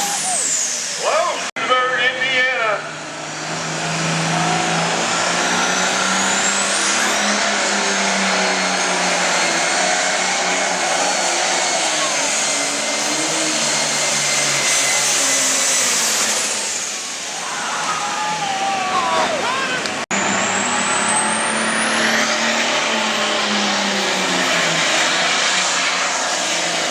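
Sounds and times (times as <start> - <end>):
diesel engine running hard: 0.0 - 26.9
high turbo whine: 0.0 - 26.9.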